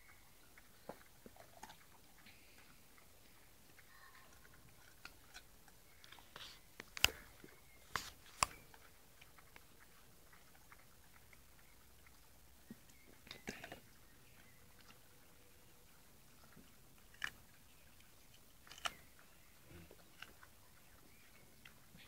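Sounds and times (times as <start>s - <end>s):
dog crunching a carrot: 0.0s - 22.0s.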